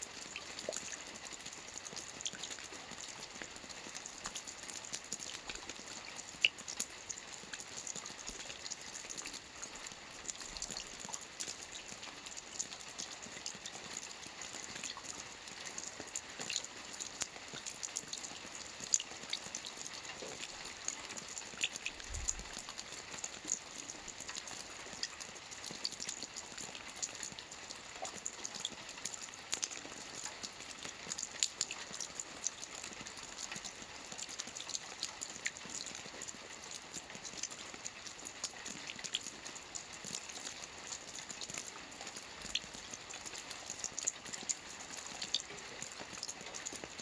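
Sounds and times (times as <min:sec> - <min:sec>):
rain pattering on a roof: 0:00.0 - 0:47.0.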